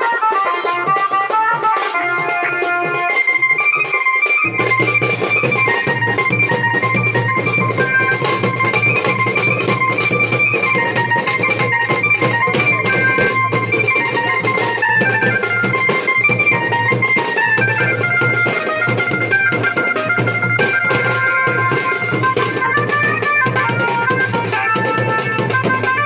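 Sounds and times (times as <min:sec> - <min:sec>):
barrel drums fast beat: 0:00.0 - 0:26.0.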